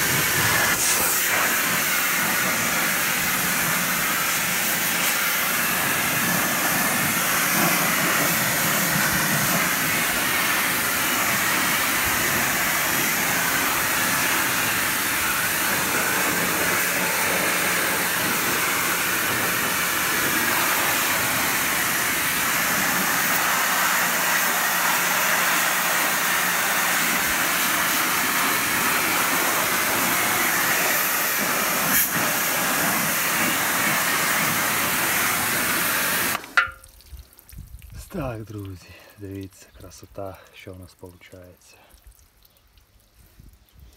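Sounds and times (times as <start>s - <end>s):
pressure washer water jet hissing: 0.0s - 36.8s.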